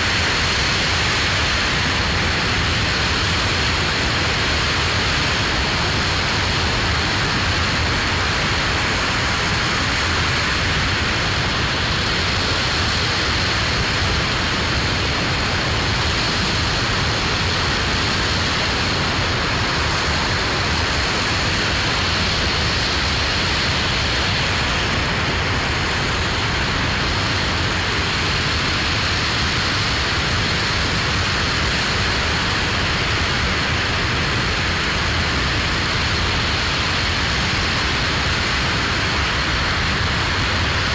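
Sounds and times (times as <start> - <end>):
rocket engine roaring: 0.0 - 40.9.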